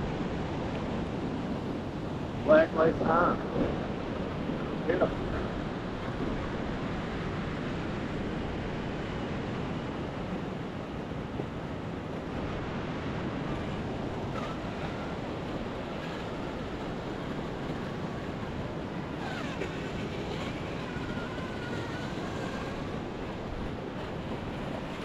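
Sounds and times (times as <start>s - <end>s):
wind buffeting microphone: 0.0s - 25.0s
surf breaking on shore: 0.2s - 25.0s.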